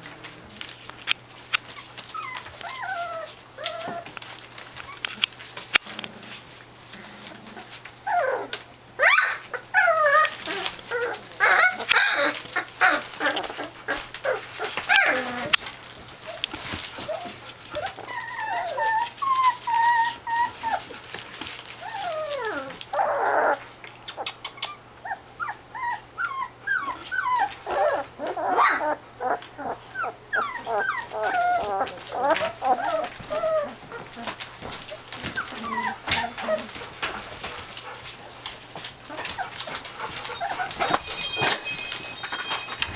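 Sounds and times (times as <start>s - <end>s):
puppies whining and yelping: 1.6s - 5.6s, 6.9s - 37.6s, 38.8s - 42.9s.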